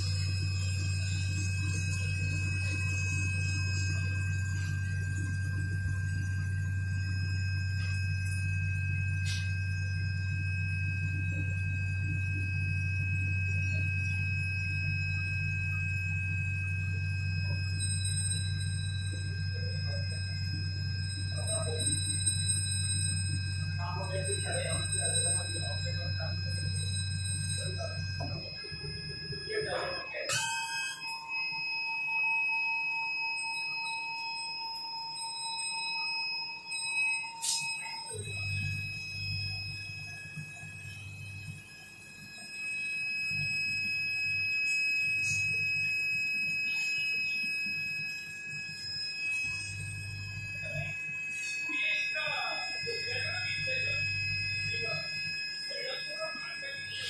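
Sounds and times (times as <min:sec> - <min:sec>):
high-pitched whining tones: 0:00.0 - 0:57.0
laser cutting machine humming: 0:00.0 - 0:57.0.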